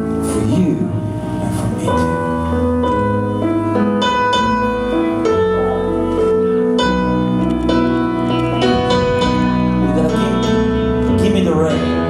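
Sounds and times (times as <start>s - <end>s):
bass: 0.0s - 12.0s
live rock band playing: 0.0s - 12.0s
sustained keyboard chords: 0.0s - 12.0s.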